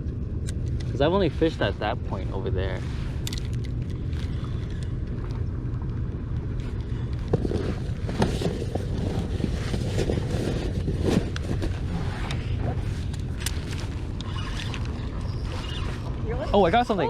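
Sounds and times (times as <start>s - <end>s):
wind rumbling on microphone: 0.0s - 17.0s
water sounds: 0.5s - 17.0s.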